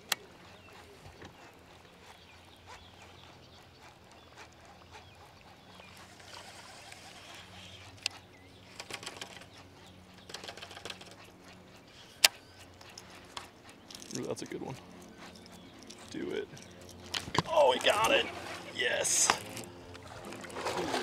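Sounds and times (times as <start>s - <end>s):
fishing reel hum: 0.0s - 21.0s.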